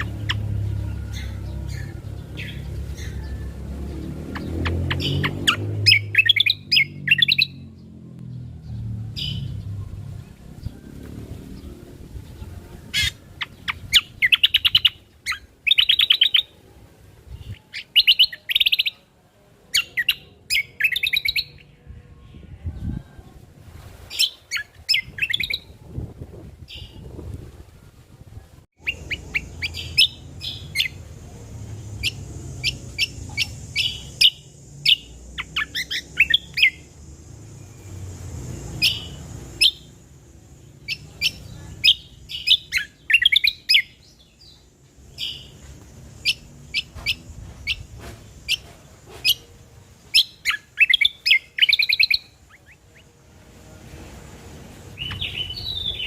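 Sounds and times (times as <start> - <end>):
bird chirping and trilling: 0.0 - 16.6, 17.3 - 19.1, 19.7 - 23.0, 24.1 - 25.8, 28.8 - 31.0, 31.7 - 36.9, 37.5 - 40.0, 40.6 - 49.4, 50.1 - 53.1, 54.9 - 56.0.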